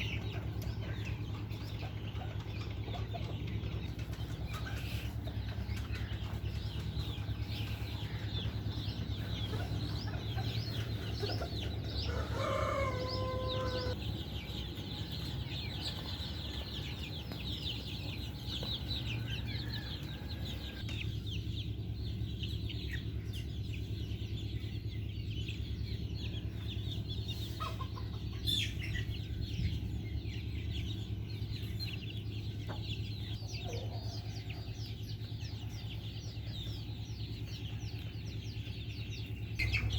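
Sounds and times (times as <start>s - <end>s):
hens clucking: 0.0s - 39.9s
steady low hum: 0.0s - 39.9s.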